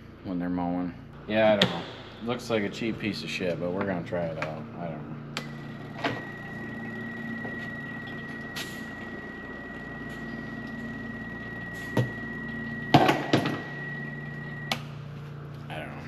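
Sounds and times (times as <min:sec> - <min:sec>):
electric pump whining: 0:01.2 - 0:16.0.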